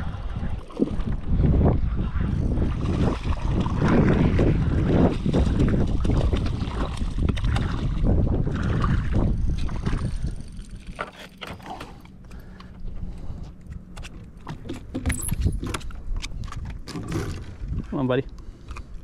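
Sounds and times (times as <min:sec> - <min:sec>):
wind buffeting microphone: 0:00.0 - 0:11.1, 0:14.6 - 0:19.0.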